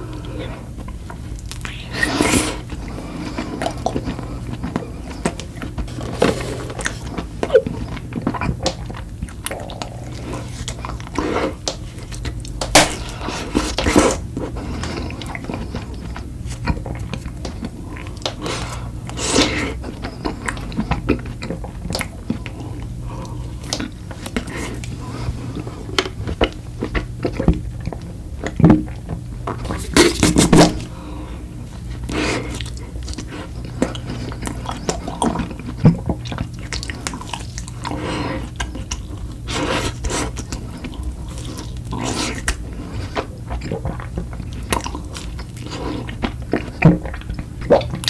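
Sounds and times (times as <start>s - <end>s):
faint low hum: 0.0s - 48.0s
chewing and biting food: 0.1s - 30.9s, 31.7s - 48.0s.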